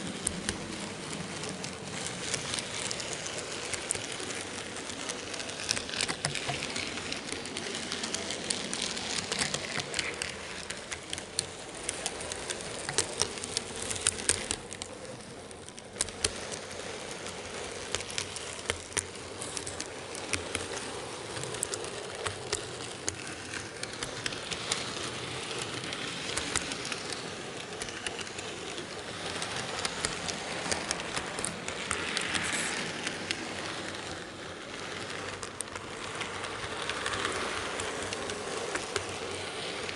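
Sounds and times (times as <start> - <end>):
model train rattling hiss: 0.0 - 39.9
wheels clicking on rails: 0.0 - 39.9.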